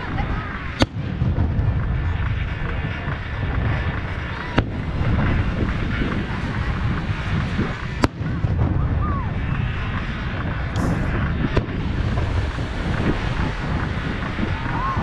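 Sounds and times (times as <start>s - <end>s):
firework bang: 0.0s - 15.0s
wind rumble on microphone: 0.0s - 15.0s.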